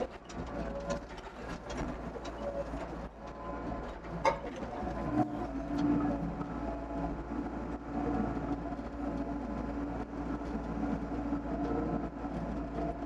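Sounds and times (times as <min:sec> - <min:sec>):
mini excavator diesel engine: 0:00.0 - 0:13.0.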